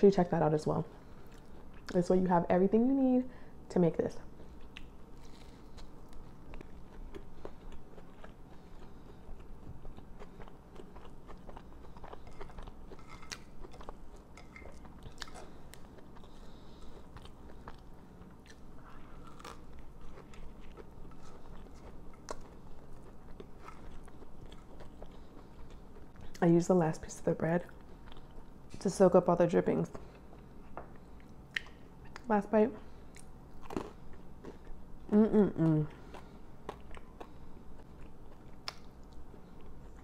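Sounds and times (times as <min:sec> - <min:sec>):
person chewing bread: 0:00.9 - 0:02.0, 0:04.3 - 0:26.4, 0:27.7 - 0:28.8, 0:29.9 - 0:40.0.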